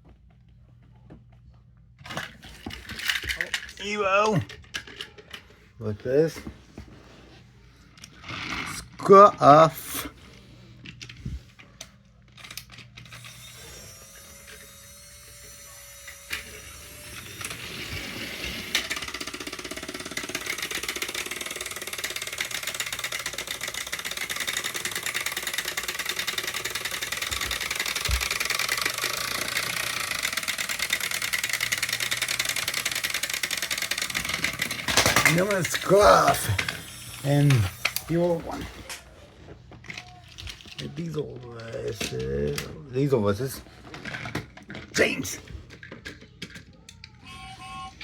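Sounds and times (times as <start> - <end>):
toy train motors whirring: 2.0 - 6.4, 7.9 - 48.0.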